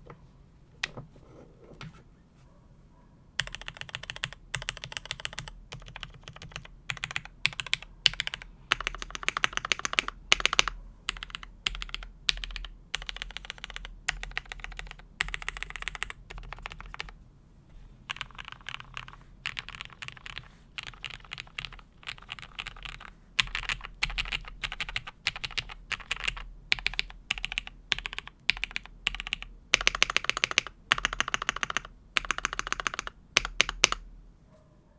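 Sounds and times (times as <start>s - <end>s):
typing on mechanical keyboard: 3.4s - 17.2s, 18.1s - 34.0s.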